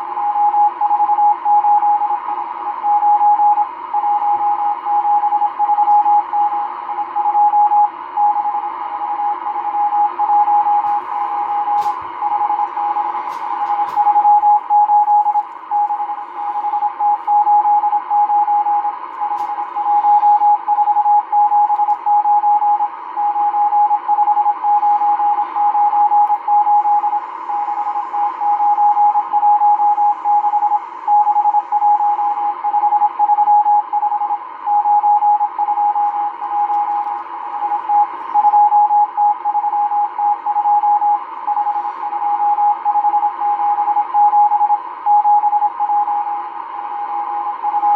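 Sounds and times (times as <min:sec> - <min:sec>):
morse code beeps: 0:02.8 - 0:47.9.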